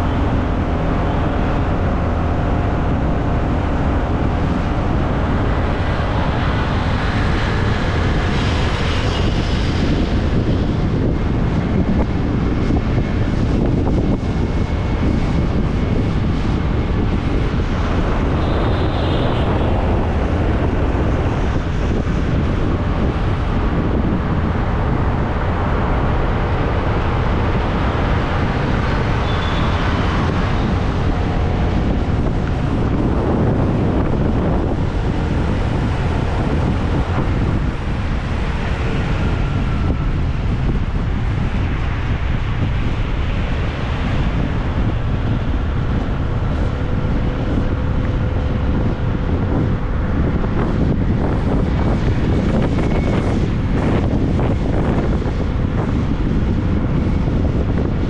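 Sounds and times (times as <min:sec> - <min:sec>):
motorbike engine and road noise: 0:00.0 - 0:58.0
wind buffeting microphone: 0:00.0 - 0:58.0.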